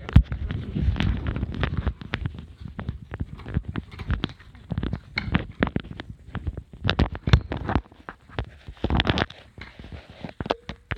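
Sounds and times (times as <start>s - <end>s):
handling noise on phone microphone: 0.0s - 10.9s.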